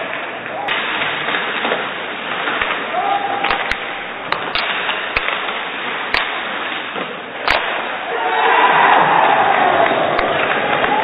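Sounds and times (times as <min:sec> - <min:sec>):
hockey sticks and puck knocking: 0:00.0 - 0:08.1, 0:08.9 - 0:11.0
din of voices and rink noise: 0:00.0 - 0:11.0.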